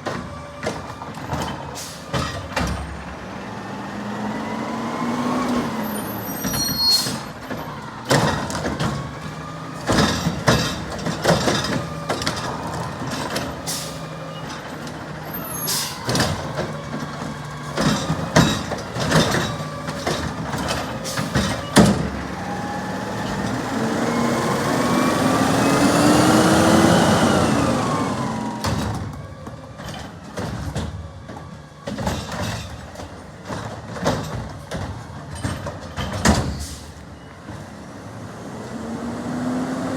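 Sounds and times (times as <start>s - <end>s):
garbage truck machinery whine: 0.0s - 39.9s.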